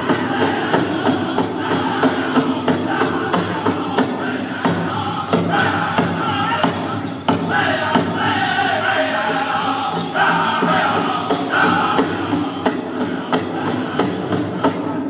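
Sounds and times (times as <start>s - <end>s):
big drum steady beat: 0.0s - 15.0s
men singing in unison: 0.0s - 15.0s.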